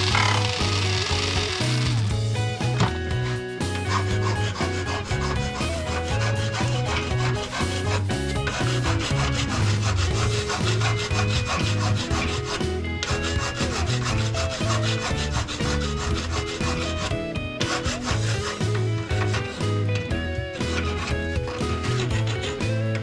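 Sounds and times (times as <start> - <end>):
background music with bass: 0.0 - 23.0.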